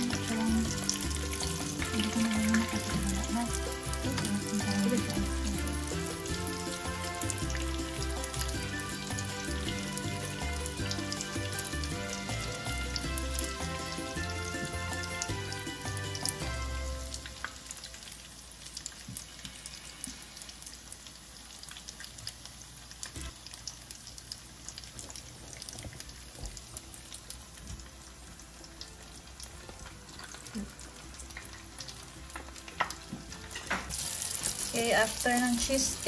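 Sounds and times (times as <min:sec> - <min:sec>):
food sizzling in hot oil: 0:00.0 - 0:36.0.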